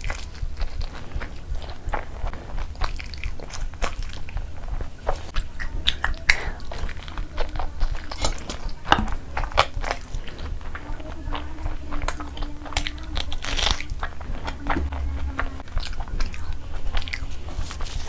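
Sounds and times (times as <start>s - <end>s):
low steady hum: 0.0s - 18.0s
person chewing crunchy food: 0.0s - 18.0s.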